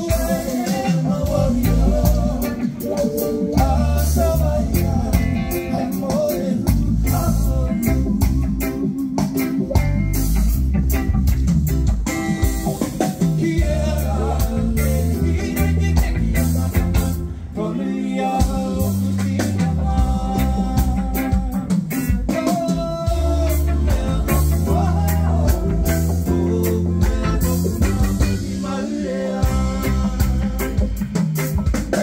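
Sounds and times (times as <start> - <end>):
person singing: 0.0 - 9.8, 13.0 - 32.0
live rock band playing: 0.0 - 32.0.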